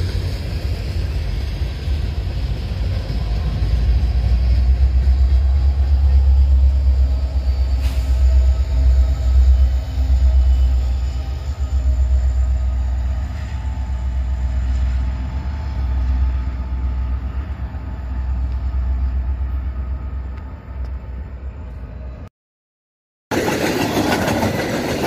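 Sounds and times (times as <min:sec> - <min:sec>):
diesel locomotives rumbling: 0:00.0 - 0:22.3, 0:23.3 - 0:25.0.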